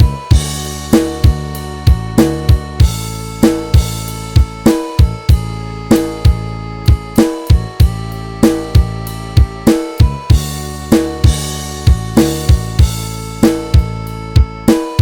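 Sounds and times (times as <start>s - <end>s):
drum kit beat: 0.0s - 15.0s
sustained chords: 0.0s - 15.0s.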